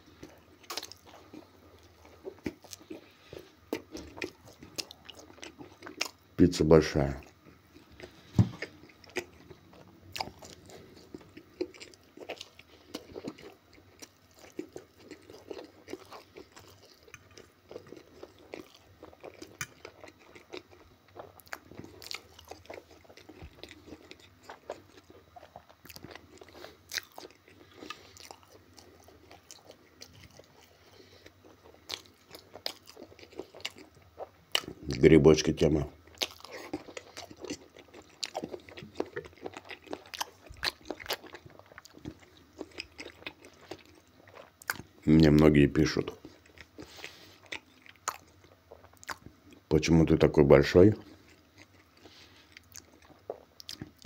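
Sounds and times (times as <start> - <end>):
man chewing food: 0.0 - 49.8, 51.0 - 54.0.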